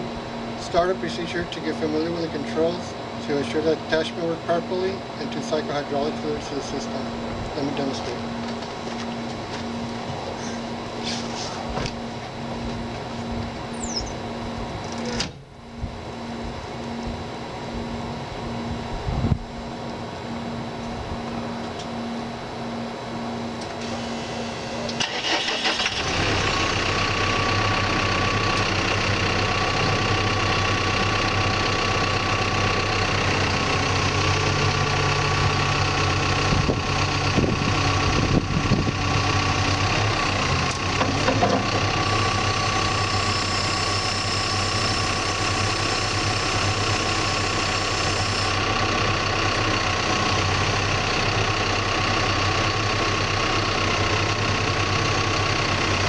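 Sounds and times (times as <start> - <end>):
diesel engine cranking and idling: 0.0 - 56.0.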